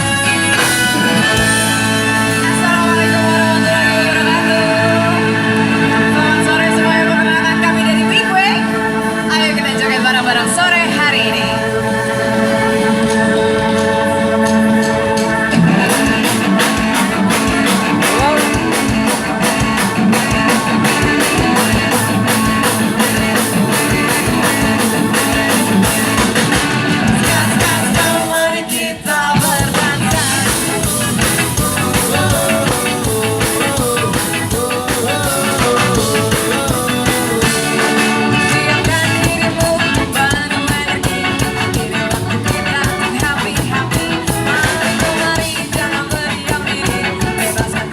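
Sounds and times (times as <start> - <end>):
ska band playing: 0.0 - 47.9.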